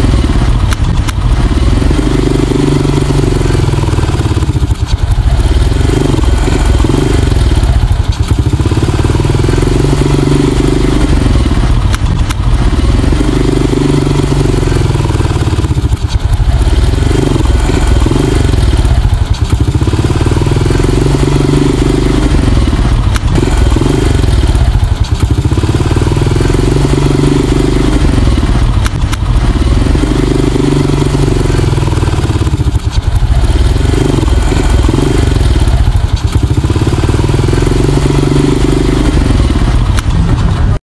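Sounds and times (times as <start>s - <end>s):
motorcycle engine revving: 0.0s - 40.8s.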